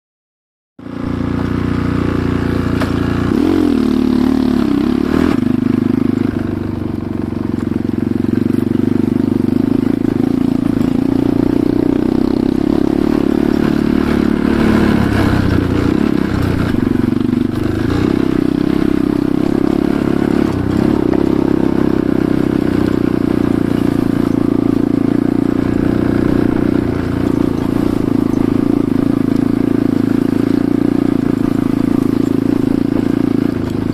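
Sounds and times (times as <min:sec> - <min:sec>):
motorcycle engine revving: 0:00.8 - 0:33.9.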